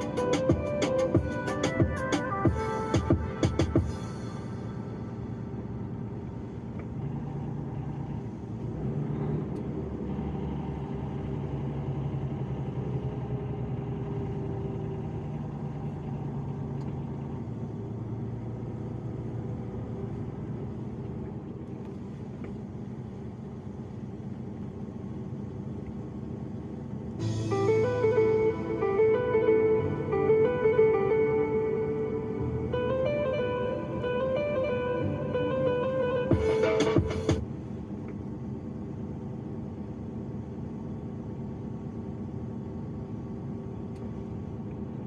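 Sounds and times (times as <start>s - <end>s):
road noise: 0.0s - 45.0s
truck engine running: 0.0s - 45.0s.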